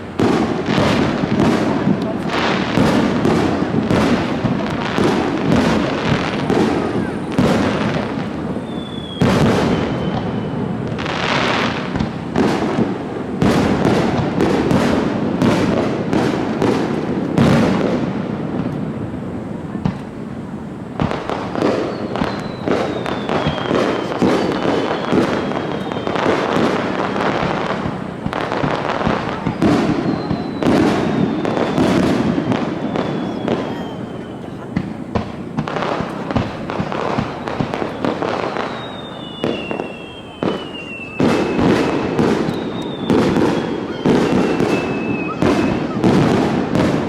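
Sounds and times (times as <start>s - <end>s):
firework whistles: 0.0s - 47.0s
fireworks bursting and crackling: 0.0s - 47.0s.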